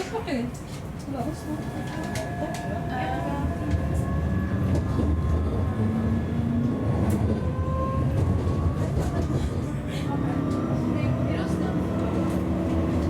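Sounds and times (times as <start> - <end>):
tram rumbling along track: 0.0 - 13.0.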